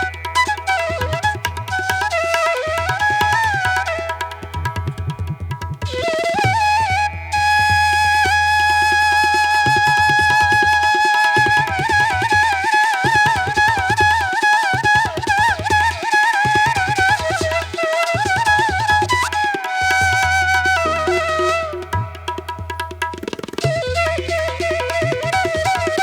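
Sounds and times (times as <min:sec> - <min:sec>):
flute-like melody: 0:00.0 - 0:26.0.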